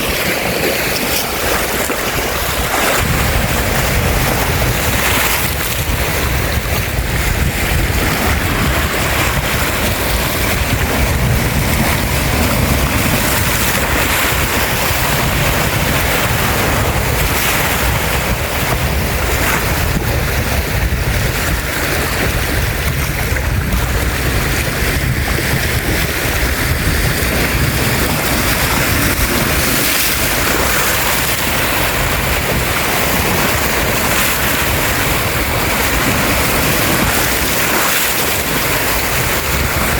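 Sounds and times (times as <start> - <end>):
waves washing onto shore: 0.0 - 39.9
wind buffeting microphone: 0.0 - 39.9.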